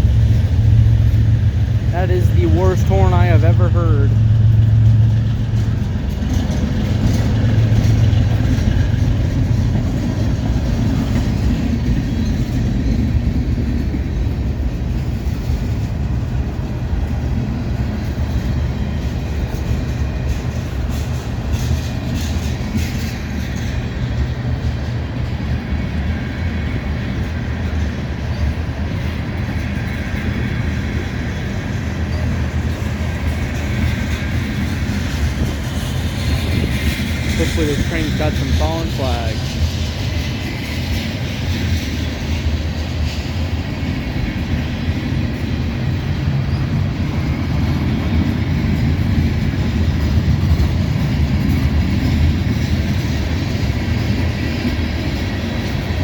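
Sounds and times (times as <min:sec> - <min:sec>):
diesel locomotive engines: 0:00.0 - 0:56.0
freight cars rumbling and clicking: 0:00.0 - 0:56.0.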